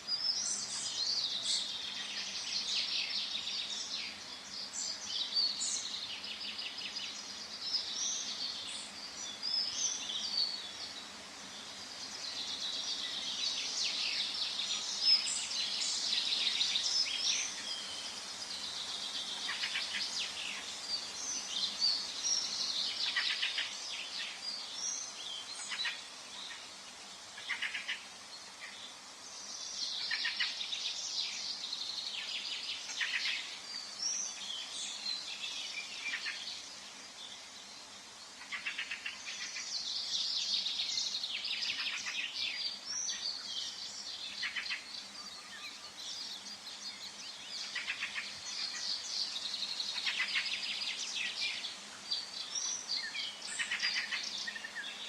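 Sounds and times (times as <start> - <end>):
faint steady hiss: 0.0 - 55.0
songbirds singing and chirping: 0.0 - 55.0.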